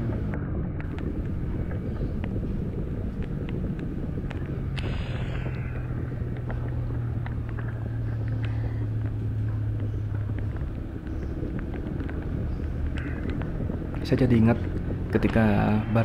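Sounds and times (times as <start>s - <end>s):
motorcycle engine droning at high revs: 0.0s - 16.0s.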